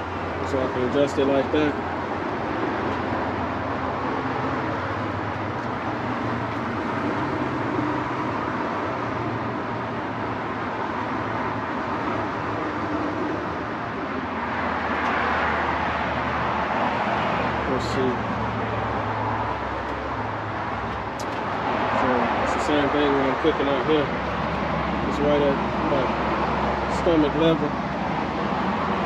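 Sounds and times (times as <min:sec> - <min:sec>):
road traffic hum: 0:00.0 - 0:29.0.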